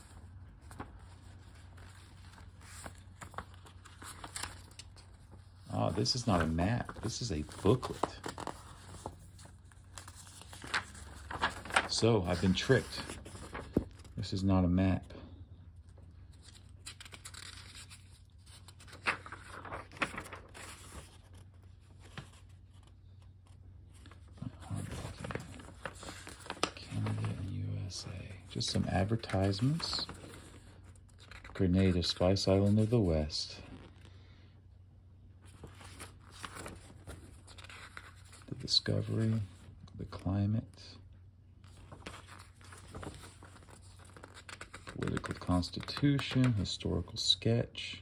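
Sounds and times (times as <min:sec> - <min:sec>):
pages turned by hand: 0:00.0 - 0:14.2, 0:16.2 - 0:33.1, 0:33.7 - 0:34.1, 0:35.4 - 0:40.2, 0:41.6 - 0:46.8
paper rustling: 0:00.0 - 0:14.4, 0:16.2 - 0:34.1, 0:35.4 - 0:40.2, 0:41.6 - 0:46.8.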